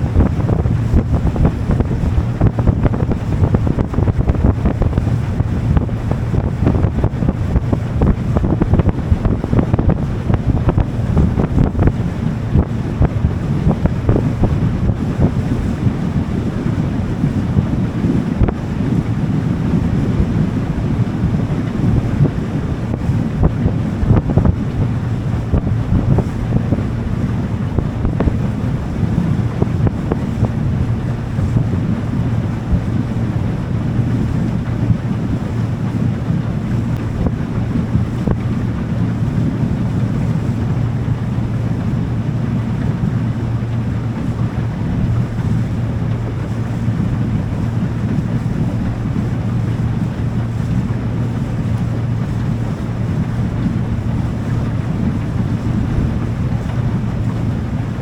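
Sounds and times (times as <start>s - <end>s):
motorboat engine running: 0.0s - 58.0s
water rushing: 0.0s - 58.0s
wind buffeting microphone: 0.0s - 58.0s.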